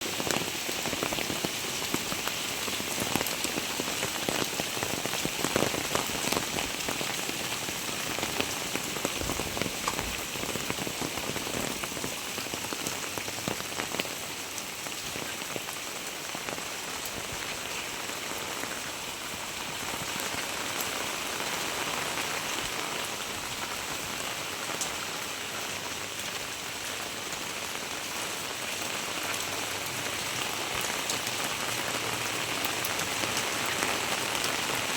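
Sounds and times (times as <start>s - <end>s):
very heavy rain falling: 0.0s - 34.9s.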